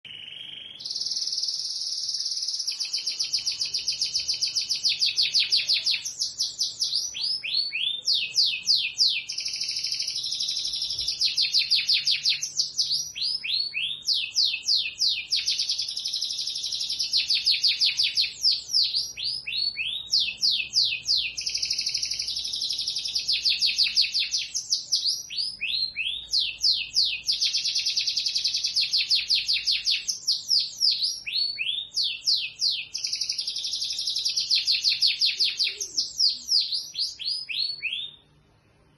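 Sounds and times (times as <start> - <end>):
canary singing trills: 0.0 - 38.4.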